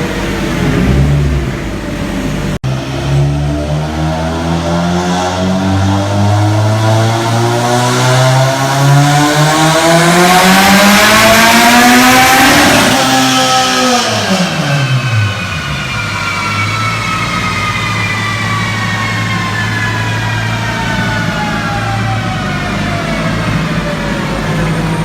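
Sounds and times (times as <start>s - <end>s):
car engine revving then idling: 0.0s - 20.9s.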